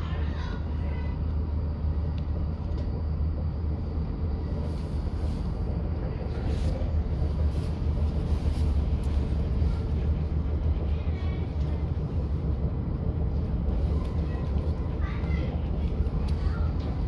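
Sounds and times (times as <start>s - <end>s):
train rumbling in motion: 0.0s - 17.0s.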